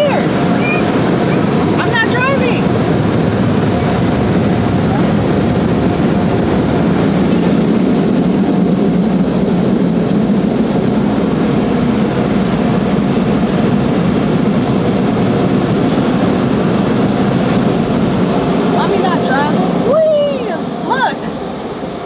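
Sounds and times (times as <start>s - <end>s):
car wash machinery rushing: 0.0s - 10.8s, 12.6s - 22.0s.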